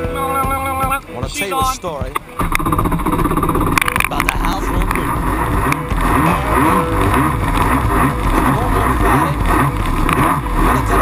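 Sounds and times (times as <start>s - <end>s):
jet ski engine running: 2.1s - 11.0s.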